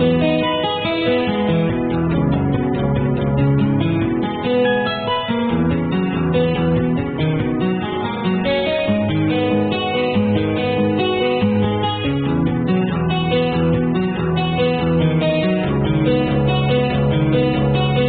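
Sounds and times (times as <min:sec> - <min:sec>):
acoustic guitar plucked and strummed: 0:00.0 - 0:18.0.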